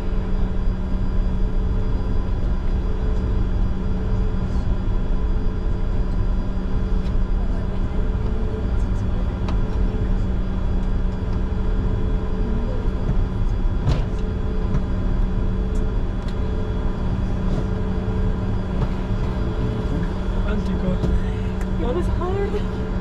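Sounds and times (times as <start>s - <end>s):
jet engines humming: 0.0s - 23.0s
low rumble: 0.0s - 23.0s.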